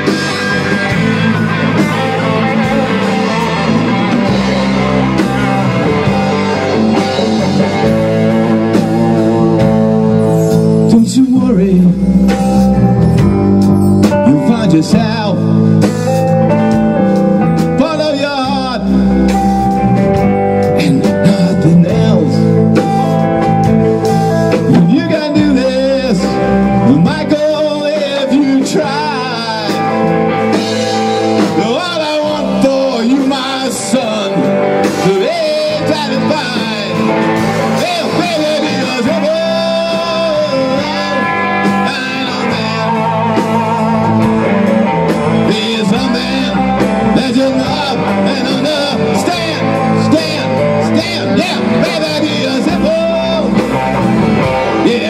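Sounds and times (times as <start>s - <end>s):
drum kit: 0.0s - 55.0s
electric bass: 0.0s - 55.0s
electric guitars: 0.0s - 55.0s
person singing lead vocal: 0.0s - 55.0s.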